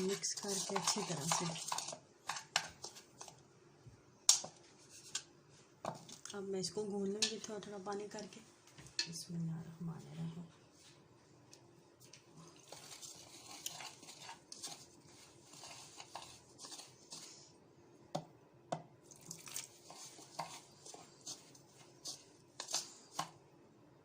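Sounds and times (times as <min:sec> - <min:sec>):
stirring and scraping in a bowl: 0:00.0 - 0:03.5, 0:04.2 - 0:08.4, 0:11.9 - 0:23.5.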